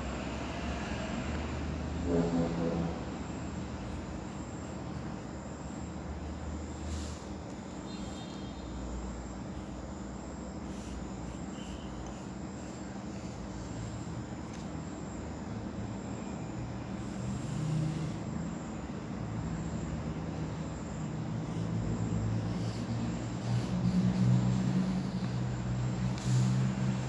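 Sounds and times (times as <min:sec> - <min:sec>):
low engine-like hum: 0:00.0 - 0:27.0.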